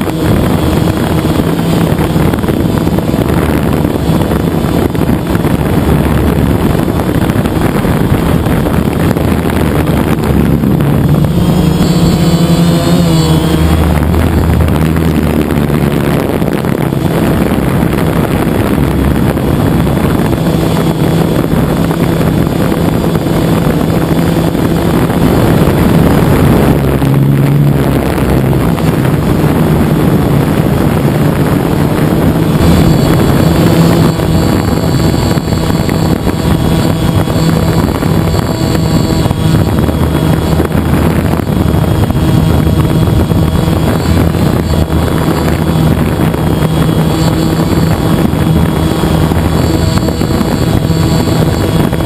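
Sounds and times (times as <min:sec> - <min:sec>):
drone motors buzzing: 0:00.0 - 0:52.0
wind rush: 0:00.0 - 0:52.0.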